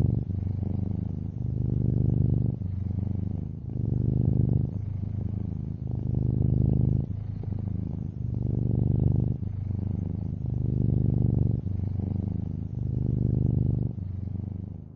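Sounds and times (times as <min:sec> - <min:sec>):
cat purring: 0:00.0 - 0:14.9.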